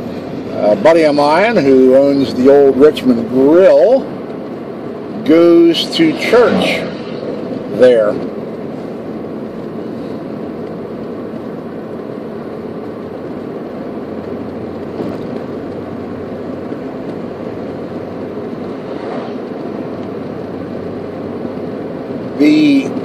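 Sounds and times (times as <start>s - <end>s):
tyres and engine hum in car: 0.0s - 23.0s.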